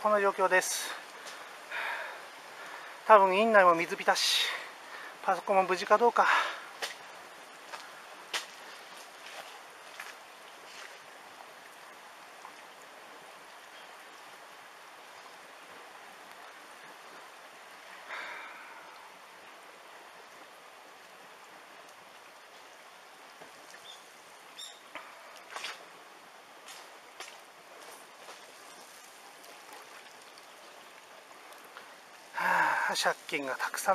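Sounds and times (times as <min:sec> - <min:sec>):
floodwater flowing: 0:00.0 - 0:33.9.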